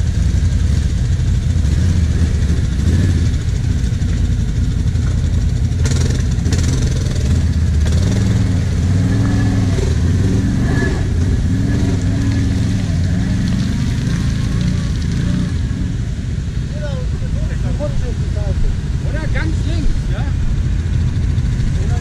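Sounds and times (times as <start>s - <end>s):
quad engines running: 0.0s - 22.0s.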